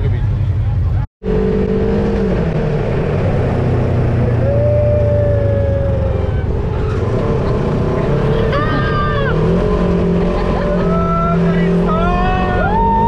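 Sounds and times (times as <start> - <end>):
buggy engine running: 0.0 - 13.0.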